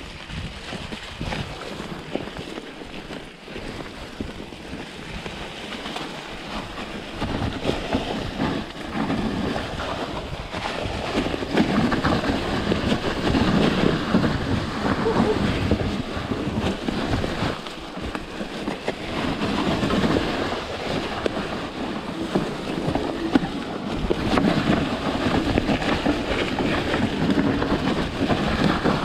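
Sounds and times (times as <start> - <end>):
tyres working through mud: 0.0 - 29.0
wind rushing over microphone: 0.0 - 29.0.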